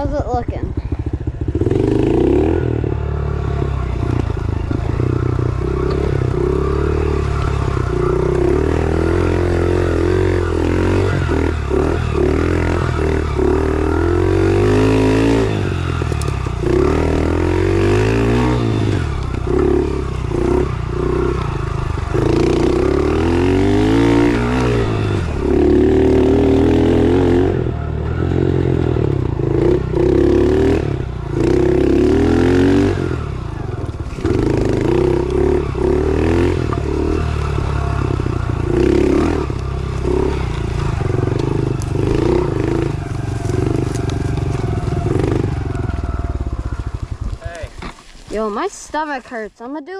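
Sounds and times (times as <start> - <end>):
motorbike engine revving: 0.0 - 49.2.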